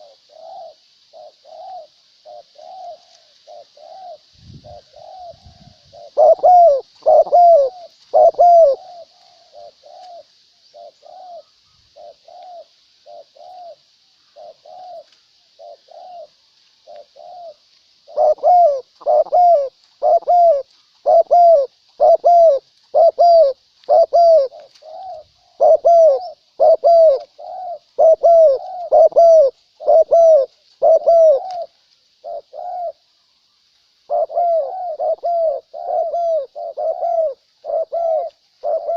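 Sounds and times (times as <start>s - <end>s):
doves cooing: 0.0s - 33.2s, 34.0s - 38.9s.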